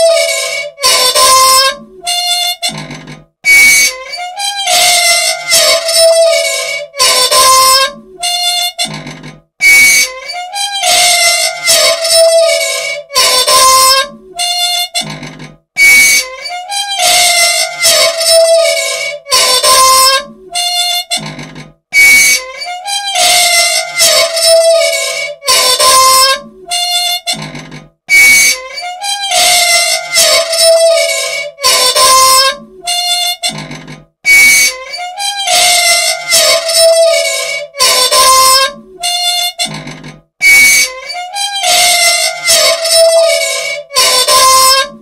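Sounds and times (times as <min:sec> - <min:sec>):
machine squealing: 0:00.0 - 0:45.0.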